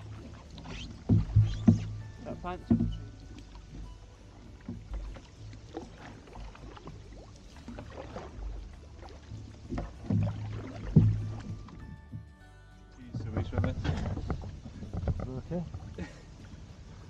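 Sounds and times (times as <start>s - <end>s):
paddles splashing in water: 0.0s - 12.3s, 13.0s - 17.0s.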